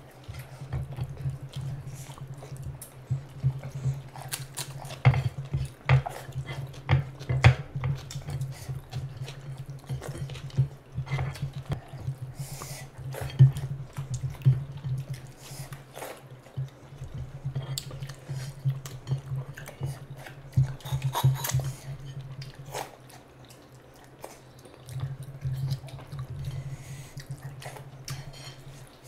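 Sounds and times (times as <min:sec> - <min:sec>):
wet chewing and lip smacks: 0:00.0 - 0:29.0.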